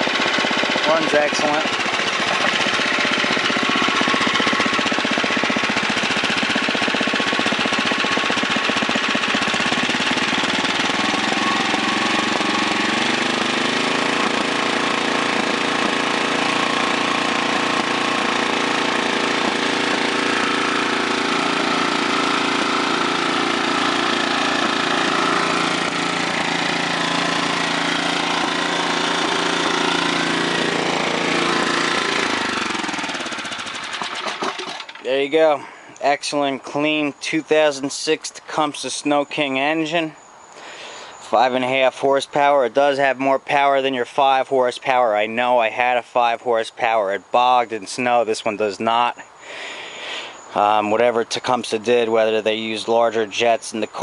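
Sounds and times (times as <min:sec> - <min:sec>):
small engine idling: 0:00.0 - 0:37.4, 0:40.1 - 0:47.9, 0:49.0 - 0:54.0.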